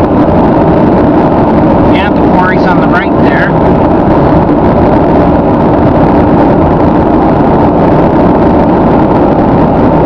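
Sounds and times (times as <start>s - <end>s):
car cabin road and wind noise: 0.0s - 10.0s.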